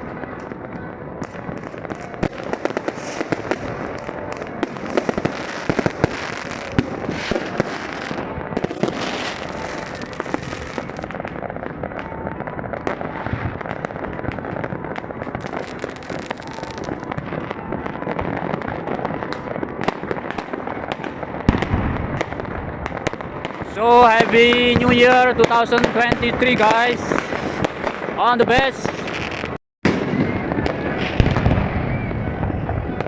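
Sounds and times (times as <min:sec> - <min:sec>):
fireworks crackling and popping: 0:00.0 - 0:33.0
loud firework bang: 0:01.2 - 0:28.2, 0:28.8 - 0:33.0.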